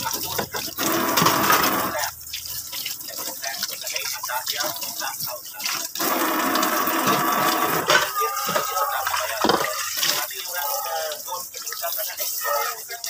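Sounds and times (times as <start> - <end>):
tap water running into sink: 0.0 - 13.0
water splashing off dishes: 0.0 - 13.0.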